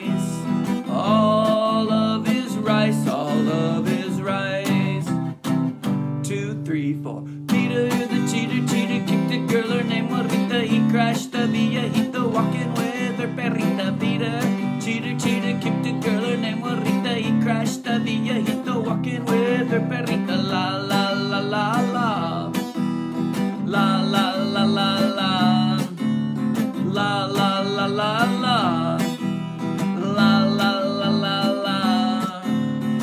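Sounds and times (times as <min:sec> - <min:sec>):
man singing: 0:00.0 - 0:05.3, 0:06.2 - 0:33.0
acoustic guitar strumming: 0:00.0 - 0:33.0.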